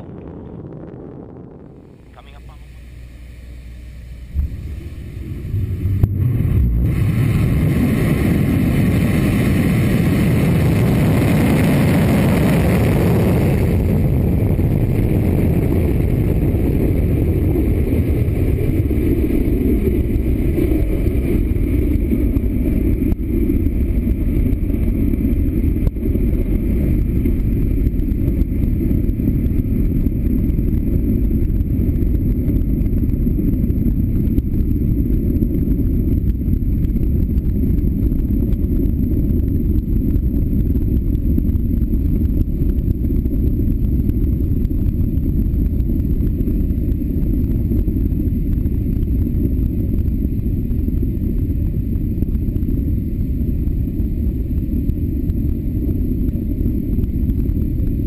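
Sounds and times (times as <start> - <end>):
rocket engine roaring: 0.0 - 58.0.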